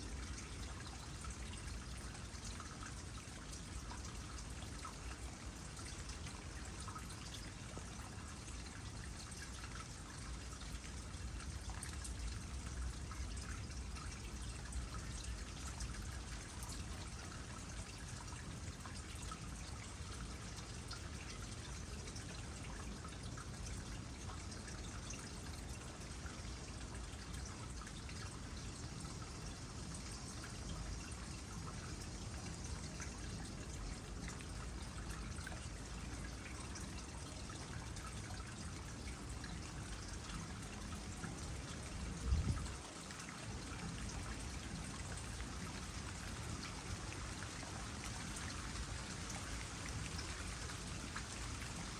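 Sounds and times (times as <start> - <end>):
water drips and splashes: 0.0 - 51.9
water trickling into pond: 0.0 - 51.9.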